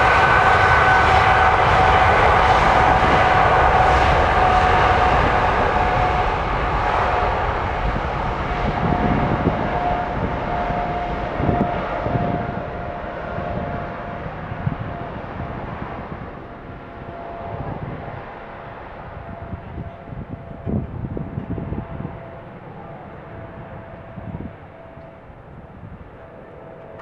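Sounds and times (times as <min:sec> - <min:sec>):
jet engines at takeoff power: 0:00.0 - 0:27.0.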